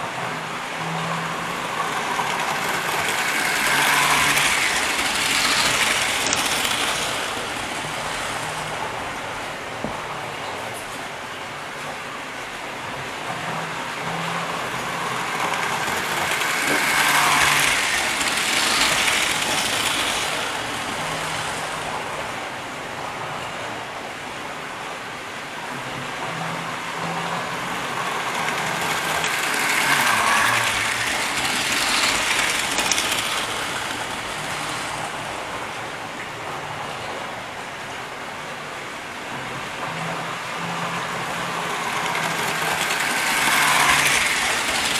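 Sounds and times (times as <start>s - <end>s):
model train on track: 0.0s - 44.9s.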